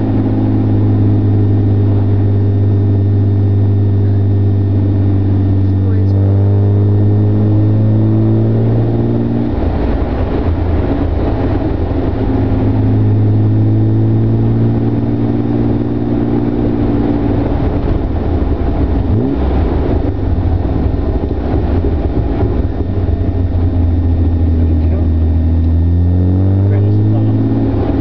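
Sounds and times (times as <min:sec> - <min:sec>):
sports car engine running: 0:00.0 - 0:28.0.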